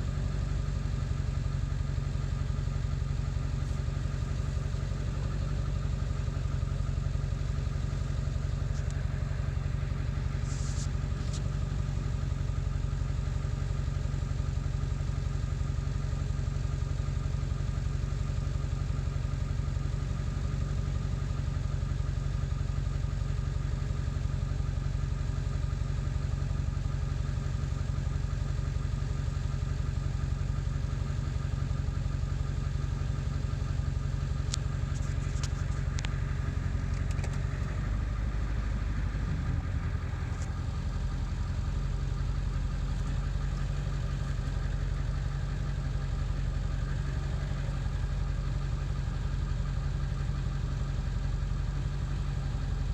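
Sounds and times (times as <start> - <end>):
diesel engine idling roughly: 0.0 - 52.9.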